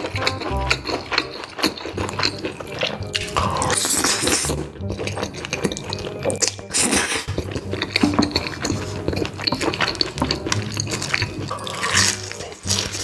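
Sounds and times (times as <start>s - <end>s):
wet chewing and slurping: 0.0s - 13.0s.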